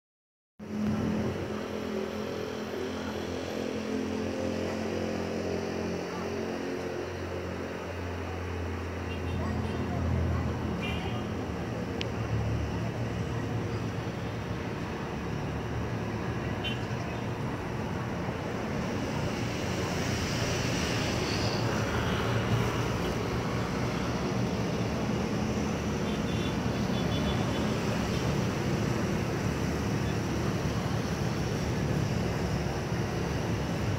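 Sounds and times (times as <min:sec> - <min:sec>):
distant traffic drone: 0:00.6 - 0:33.9.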